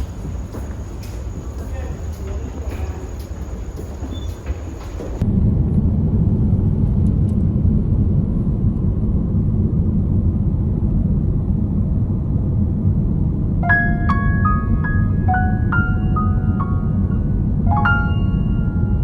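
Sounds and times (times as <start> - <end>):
vehicle engine low rumble: 0.0 - 19.0.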